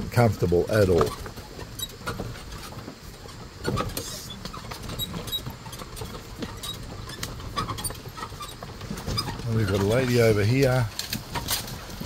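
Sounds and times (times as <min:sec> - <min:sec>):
cart knocks: 0:00.0 - 0:12.0
cart rattling over rough ground: 0:00.0 - 0:12.0.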